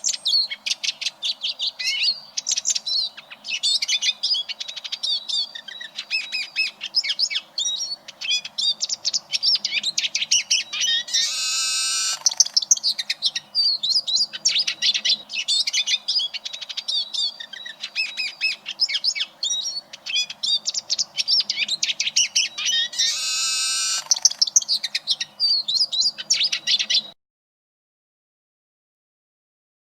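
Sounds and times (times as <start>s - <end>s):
bird twittering and trilling: 0.0s - 27.2s.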